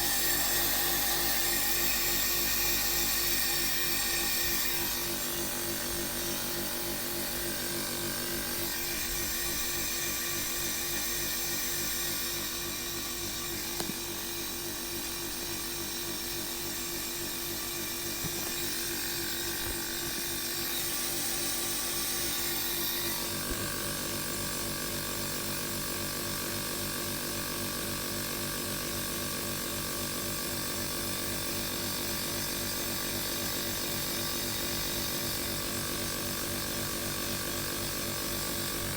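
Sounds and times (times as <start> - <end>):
compressor humming and buzzing: 0.0 - 25.4, 29.3 - 38.9.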